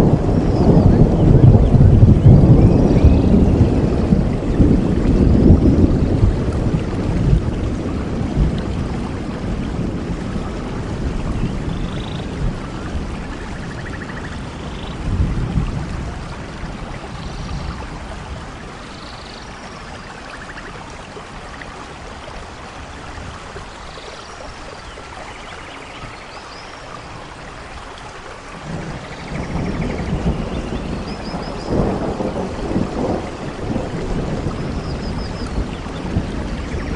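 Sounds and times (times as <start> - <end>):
low thunder rumble: 0.0 - 23.8, 28.6 - 36.9
steady rain: 0.0 - 36.9.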